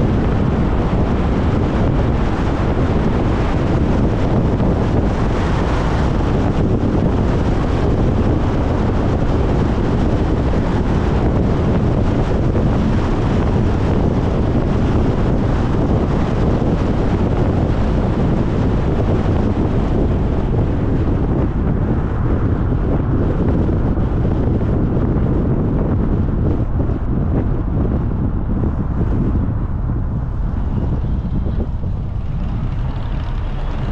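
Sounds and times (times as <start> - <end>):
car tyre road noise: 0.0 - 33.9
wind buffeting microphone: 0.0 - 33.9.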